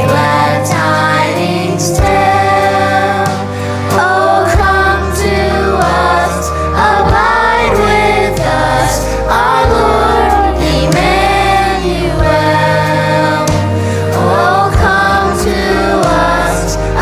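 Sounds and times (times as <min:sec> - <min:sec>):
children's choir singing a hymn: 0:00.0 - 0:17.0
instrumental accompaniment: 0:00.0 - 0:17.0.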